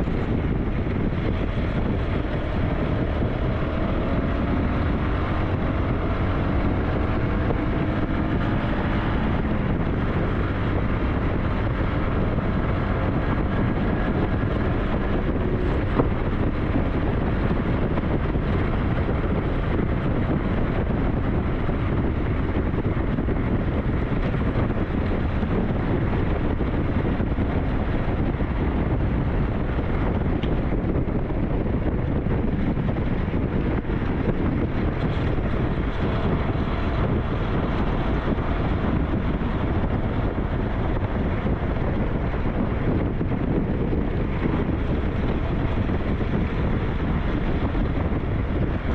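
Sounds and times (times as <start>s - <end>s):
motorcycle engine running: 0.0s - 48.9s
wind buffeting microphone: 0.0s - 48.9s.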